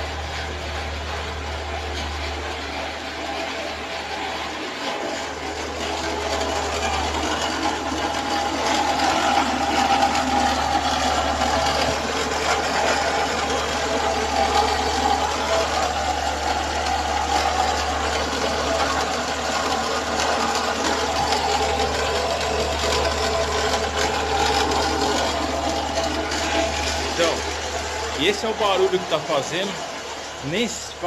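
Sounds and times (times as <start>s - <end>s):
car engine running: 0.0s - 31.0s
rapid mechanical ticking: 0.0s - 31.0s.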